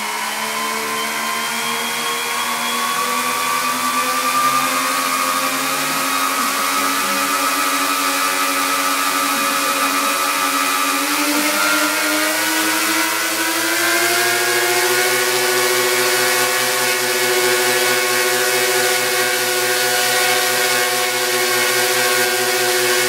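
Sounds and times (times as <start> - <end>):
electric motors and propellers droning: 0.0 - 23.0.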